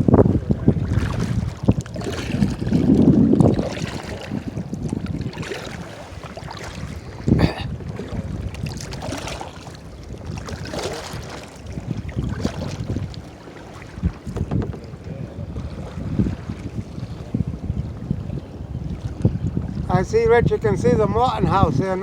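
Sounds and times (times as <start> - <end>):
water splashing around kayak: 0.0 - 22.0
wind rumbling on microphone: 0.0 - 22.0.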